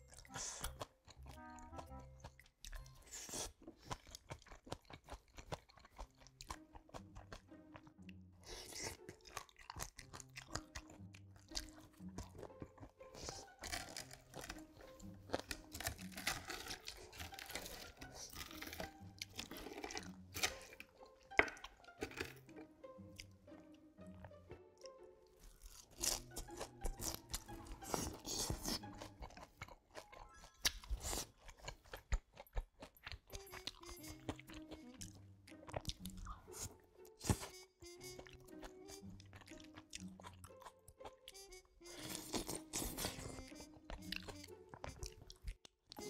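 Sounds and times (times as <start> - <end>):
chewing and crunching food: 0.0 - 46.0.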